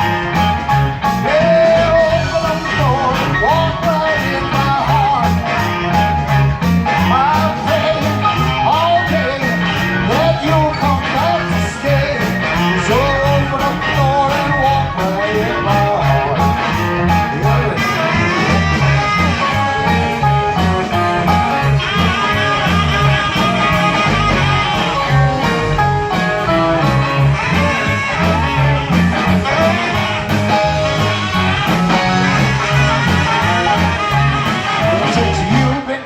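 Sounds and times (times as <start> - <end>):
guitar melody: 0.0 - 36.0
live band playing instrumental: 0.0 - 36.0.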